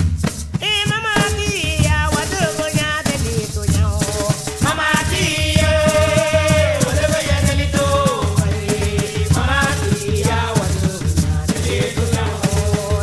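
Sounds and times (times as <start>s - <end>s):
shaker rattle rhythm: 0.0s - 13.0s
person singing: 0.6s - 13.0s.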